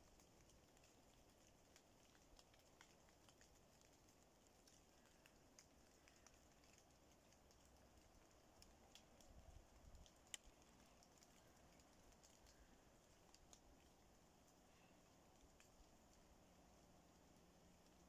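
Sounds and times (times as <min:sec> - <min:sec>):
raindrops ticking on leaves: 0:00.0 - 0:18.0.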